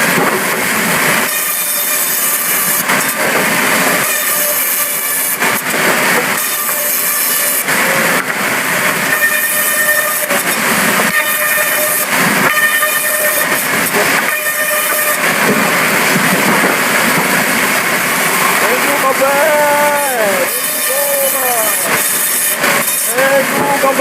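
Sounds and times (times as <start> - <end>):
sawmill saw cutting timber: 0.0 - 24.0.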